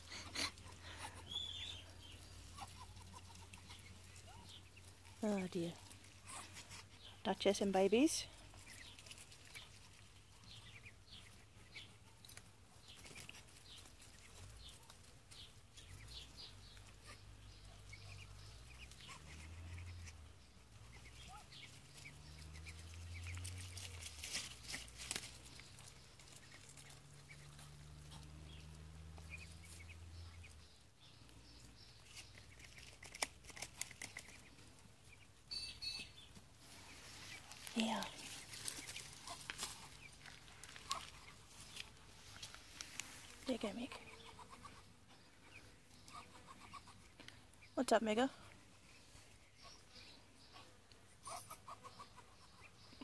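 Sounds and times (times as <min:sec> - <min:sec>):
ducklings peeping: 0:00.0 - 0:53.0.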